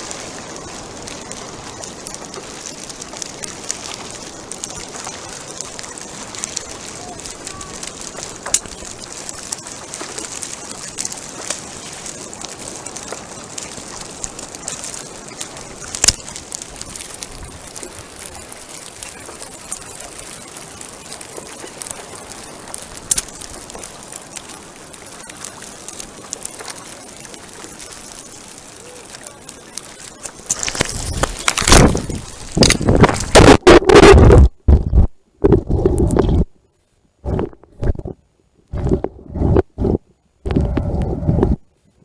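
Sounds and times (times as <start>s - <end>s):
water splashing around paddleboard: 0.0s - 36.4s.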